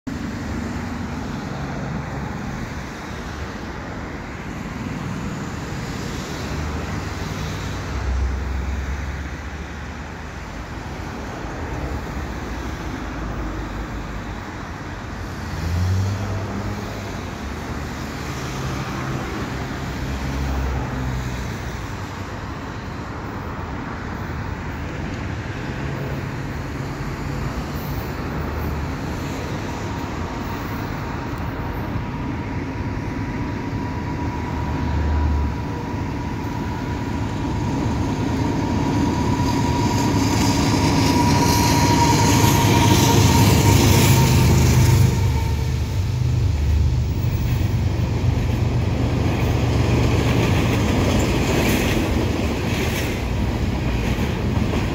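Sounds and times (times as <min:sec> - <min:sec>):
road traffic passing: 0:00.1 - 0:54.9.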